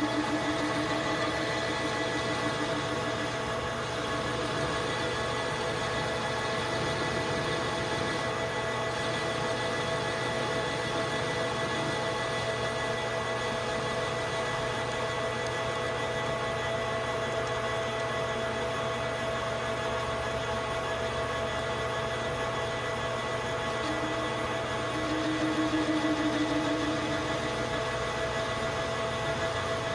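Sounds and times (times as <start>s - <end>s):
metal lathe humming: 0.0s - 17.6s, 21.5s - 29.9s.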